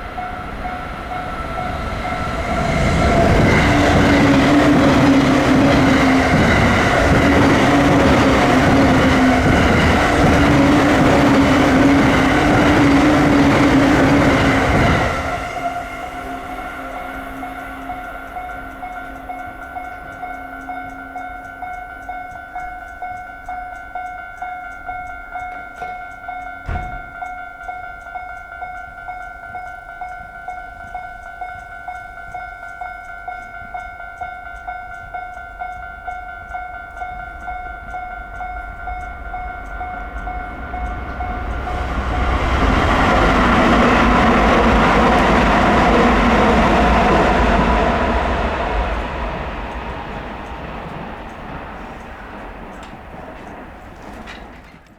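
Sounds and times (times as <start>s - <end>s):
train passing over crossing: 0.0s - 54.9s.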